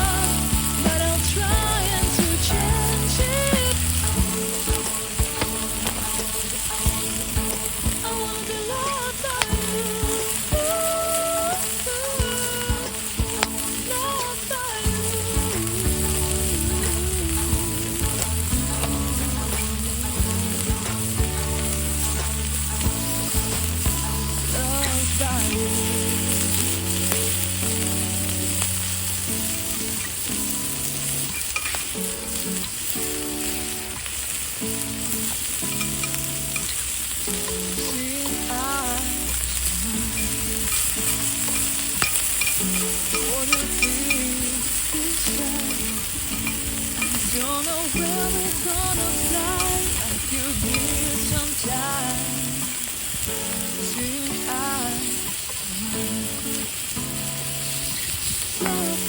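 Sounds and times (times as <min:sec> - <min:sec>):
food sizzling on griddle: 0:00.0 - 0:59.0
instrumental music: 0:00.0 - 0:59.0.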